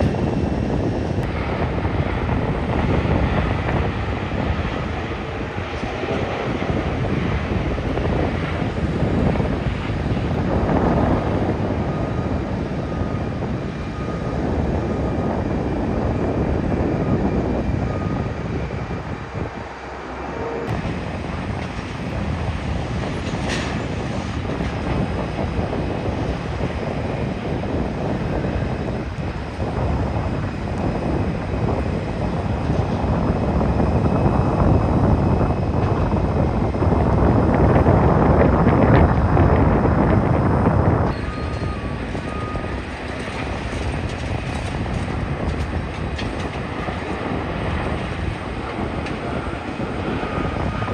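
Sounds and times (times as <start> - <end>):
jet airliner engine noise: 0.0 - 50.9
wind on microphone: 0.0 - 50.9.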